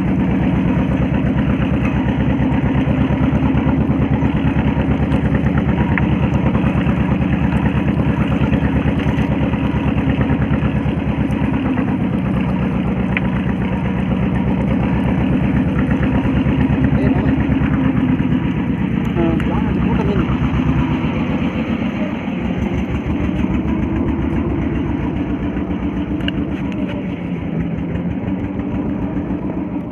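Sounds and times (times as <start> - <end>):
boat engine running: 0.0 - 29.9.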